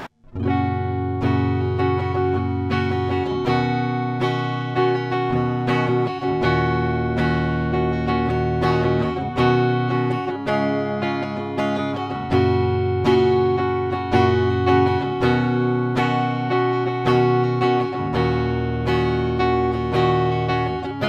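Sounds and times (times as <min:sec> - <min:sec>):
clean electric guitar chords: 0:00.0 - 0:21.0.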